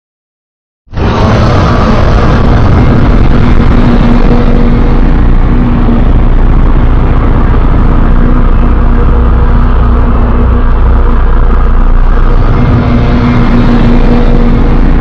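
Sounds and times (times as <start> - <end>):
loud rumbling monster noise: 0.9 - 15.0
faint droning tone: 1.0 - 15.0.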